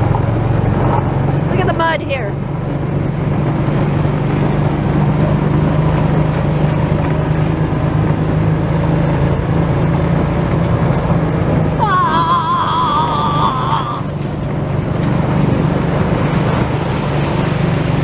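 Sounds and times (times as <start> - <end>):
road noise: 0.0 - 18.0
vehicle engine droning: 0.0 - 18.0.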